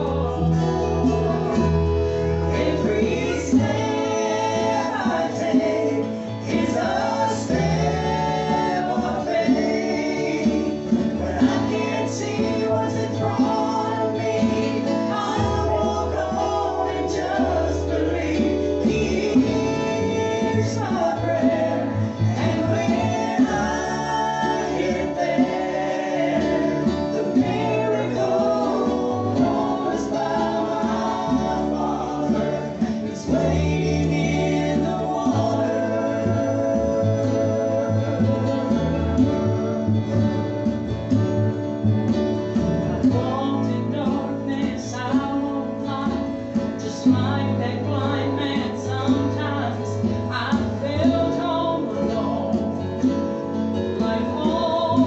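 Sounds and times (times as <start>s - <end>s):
acoustic guitar: 0.0s - 55.0s
gospel vocal group singing: 0.0s - 55.0s
steady bass line: 0.0s - 55.0s.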